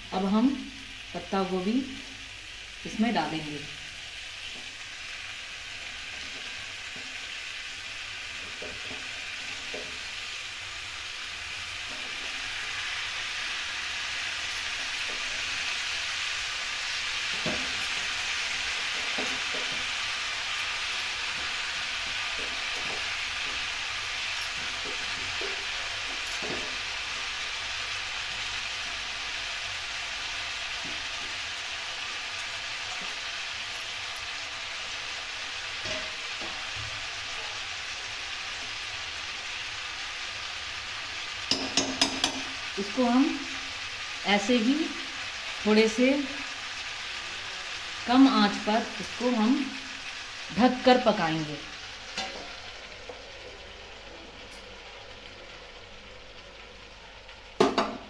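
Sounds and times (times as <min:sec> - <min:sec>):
potatoes sizzling in oil: 0:00.0 - 0:58.0.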